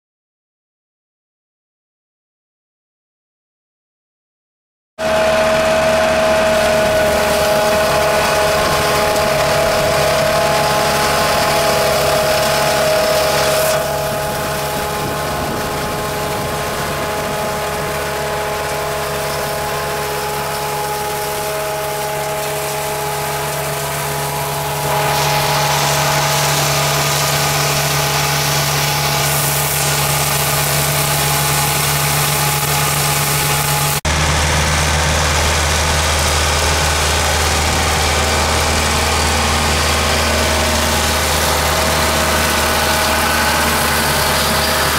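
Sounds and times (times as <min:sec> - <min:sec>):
tractor flail mower drone: 0:05.0 - 0:44.9.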